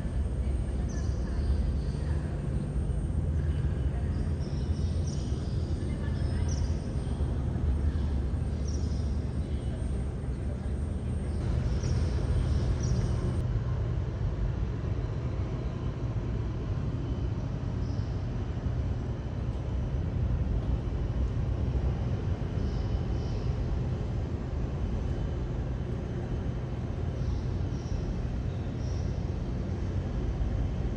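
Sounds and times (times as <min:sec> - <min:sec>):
distant jet engine rumble: 0:00.0 - 0:30.9.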